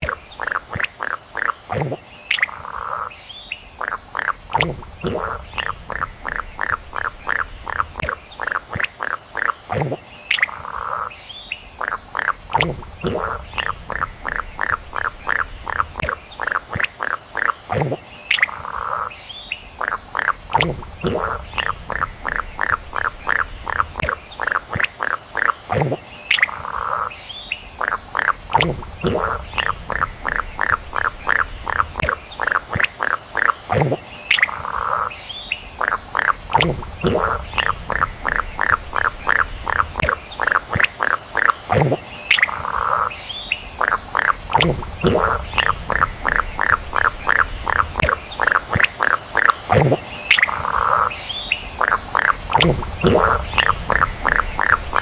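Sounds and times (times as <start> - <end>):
frogs calling in rapid pulses: 0.0 - 55.0.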